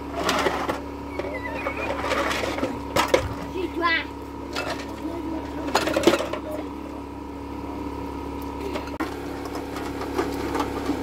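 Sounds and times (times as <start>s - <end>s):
steady motor hum: 0.0s - 11.0s.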